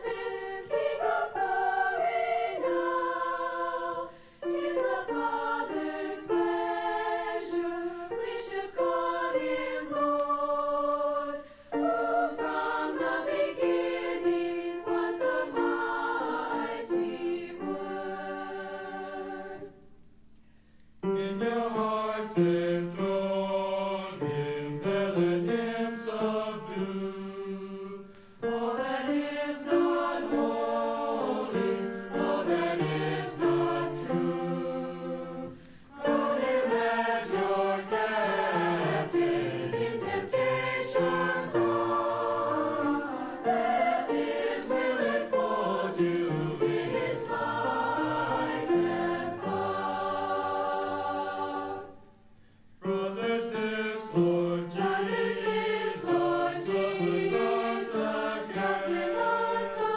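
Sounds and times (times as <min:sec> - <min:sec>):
choir singing: 0:00.0 - 0:19.8, 0:21.0 - 0:52.2, 0:52.8 - 0:59.9.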